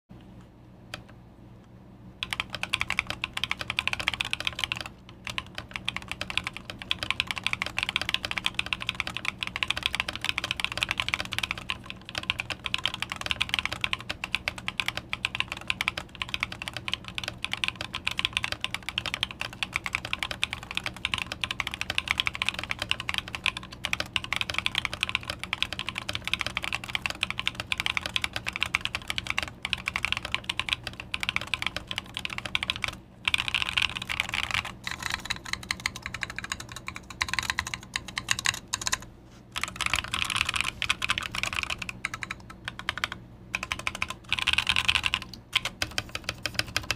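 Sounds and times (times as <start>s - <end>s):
mechanical keyboard typing: 2.2s - 46.9s.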